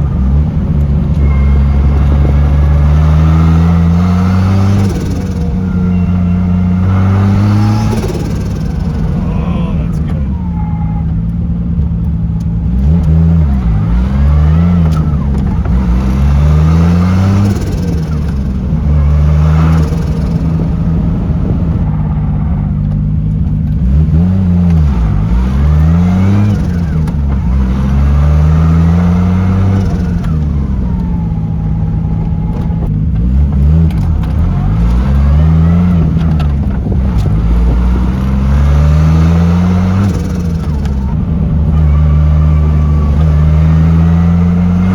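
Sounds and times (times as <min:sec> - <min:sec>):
car engine accelerating: 0:00.0 - 0:44.9.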